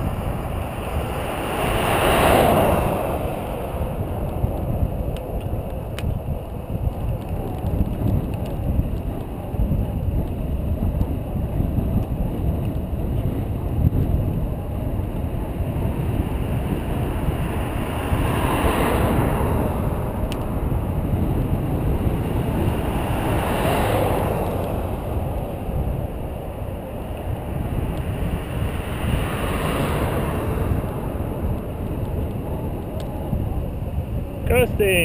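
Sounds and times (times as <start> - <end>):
passing traffic: 0.0 - 35.0
wind buffeting the microphone: 0.0 - 35.0.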